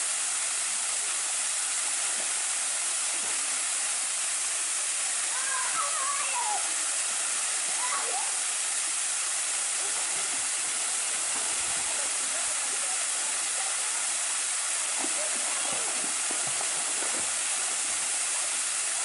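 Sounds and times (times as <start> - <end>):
waterfall rushing hiss: 0.0 - 19.0.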